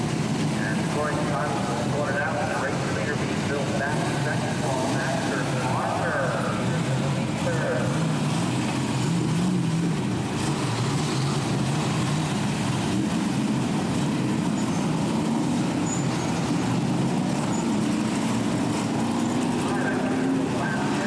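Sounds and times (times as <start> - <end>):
race car engines rumbling: 0.0 - 21.0.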